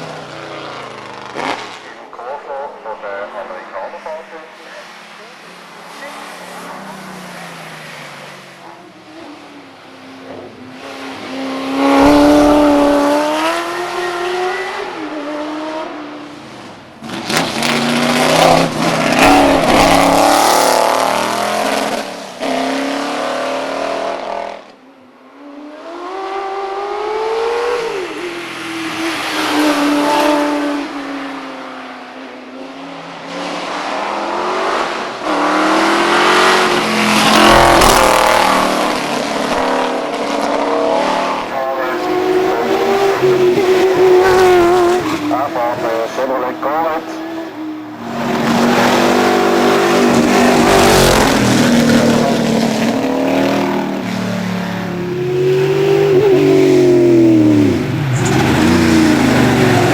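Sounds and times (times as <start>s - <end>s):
race car engines accelerating: 0.0s - 59.9s.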